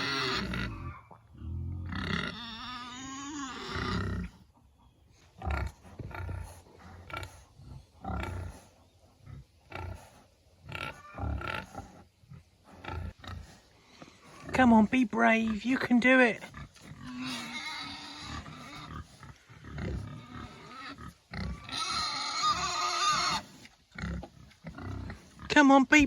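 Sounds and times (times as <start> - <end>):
pigs grunting: 0.0 - 25.6.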